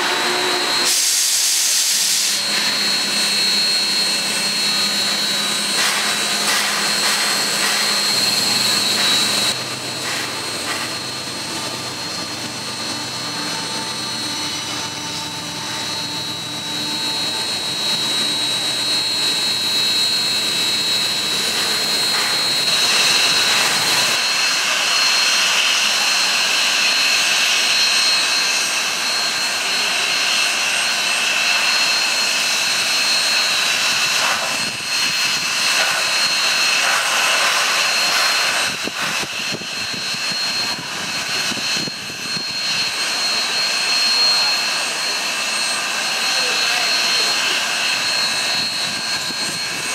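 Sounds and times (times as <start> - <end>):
steam locomotive venting steam: 0.0 - 49.9.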